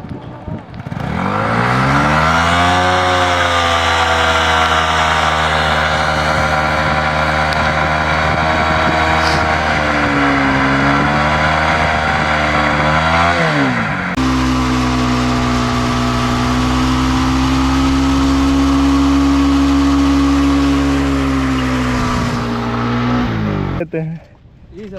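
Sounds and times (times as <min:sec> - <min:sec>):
motorcycle engine at high revs: 0:00.0 - 0:23.8.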